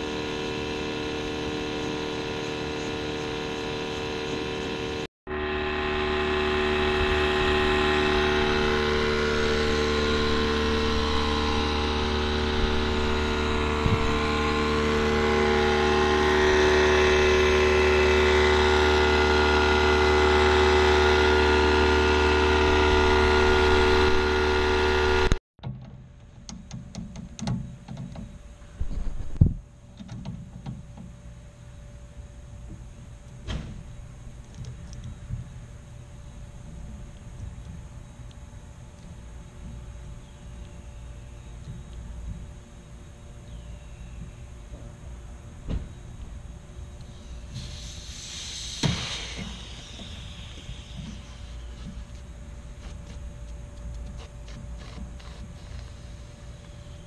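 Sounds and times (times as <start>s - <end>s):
machine motor humming and whining: 0.0s - 25.4s, 31.0s - 57.0s.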